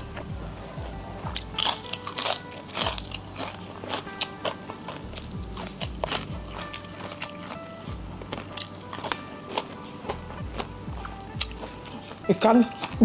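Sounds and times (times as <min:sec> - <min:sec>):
background music with sustained tones: 0:00.0 - 0:13.0
crunchy food chewing: 0:00.8 - 0:13.0.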